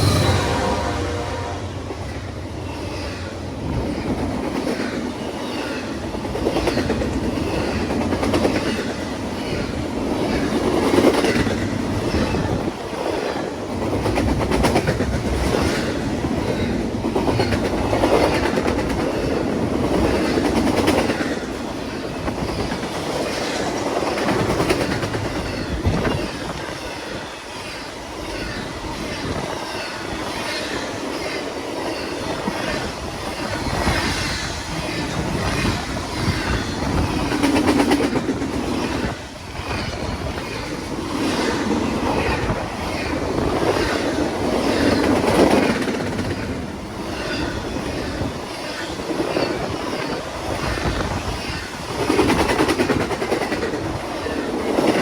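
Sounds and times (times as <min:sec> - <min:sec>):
train wheels clacking on track: 0:00.0 - 0:55.0.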